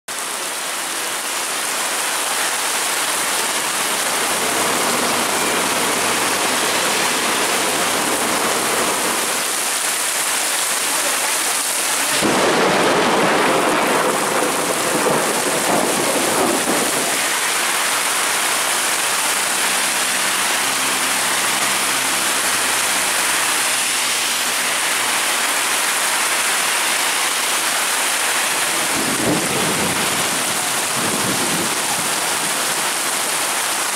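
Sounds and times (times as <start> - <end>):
heavy rain on pavement: 0.1 - 33.9.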